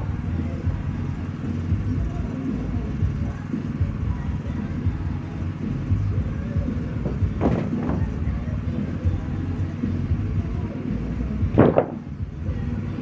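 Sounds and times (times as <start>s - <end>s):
sawmill engine low rumble: 0.0s - 13.0s.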